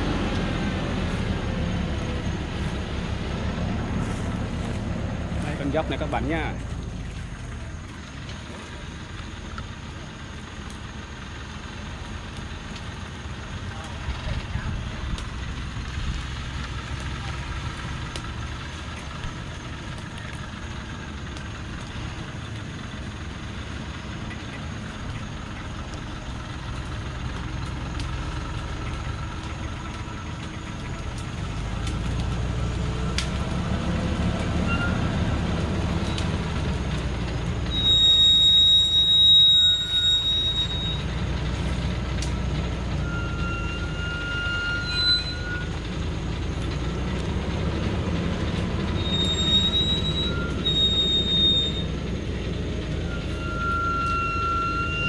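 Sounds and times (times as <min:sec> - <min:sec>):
brakes squealing: 0:00.0 - 0:55.0
diesel engine rumbling: 0:00.0 - 0:55.0.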